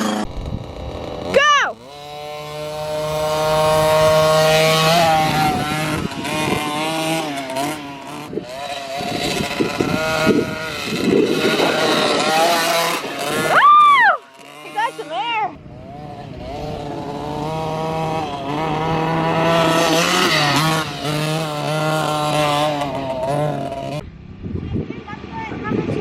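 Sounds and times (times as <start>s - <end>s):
dirt bike engine revving: 0.0s - 24.6s.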